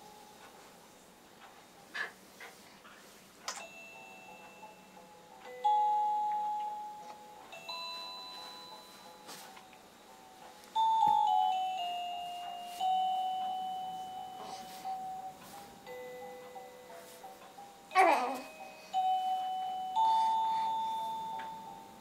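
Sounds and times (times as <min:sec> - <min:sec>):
crib mobile chime melody: 0:03.6 - 0:22.0.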